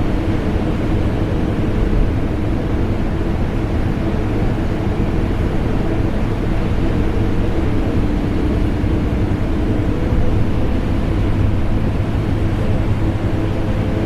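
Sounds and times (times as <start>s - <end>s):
air conditioner drone: 0.0s - 14.0s.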